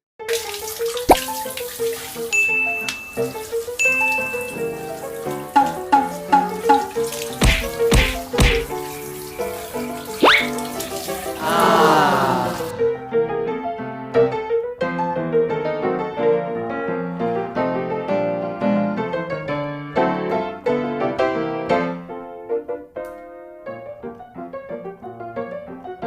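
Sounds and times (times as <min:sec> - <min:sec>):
piano music: 0:00.2 - 0:26.0.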